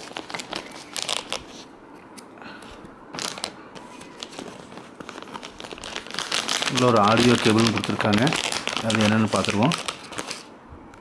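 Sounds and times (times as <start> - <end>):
packaging crinkling and rustling: 0.0 - 1.7, 3.1 - 10.5.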